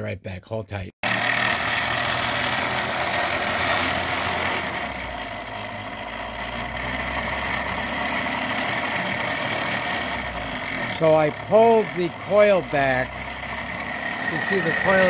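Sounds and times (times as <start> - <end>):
motor rotor rattling: 1.0 - 15.0
steady motor whine: 1.0 - 15.0.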